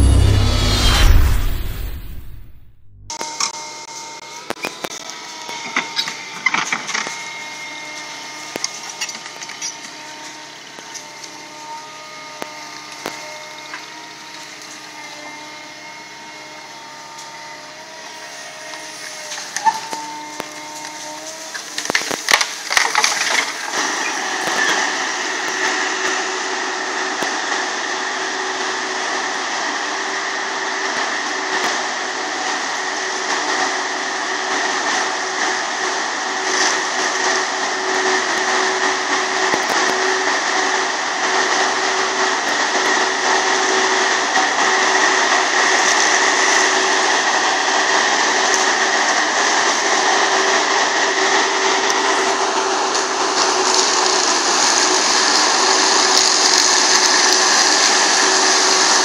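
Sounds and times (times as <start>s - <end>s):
forestry mulcher droning with whine: 0.0s - 59.0s.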